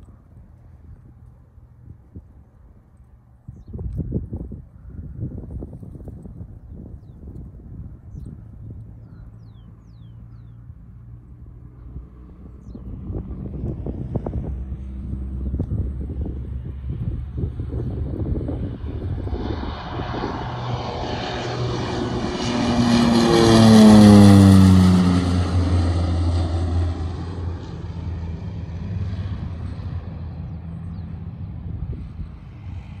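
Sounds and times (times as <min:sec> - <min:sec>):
turboprop aircraft passing overhead: 0:00.0 - 0:33.0.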